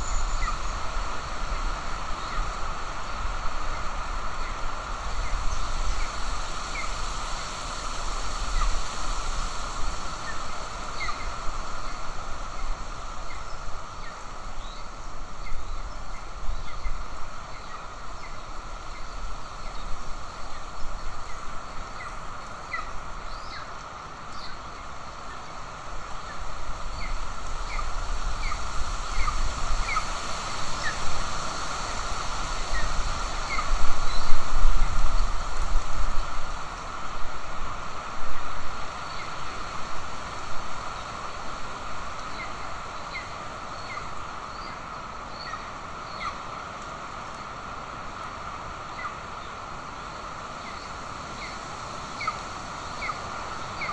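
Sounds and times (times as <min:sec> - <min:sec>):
steady hiss: 0:00.0 - 0:53.9.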